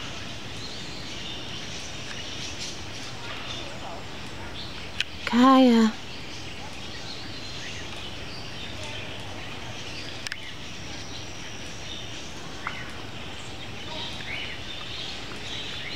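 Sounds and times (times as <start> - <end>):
outdoor background noise: 0.0 - 15.9.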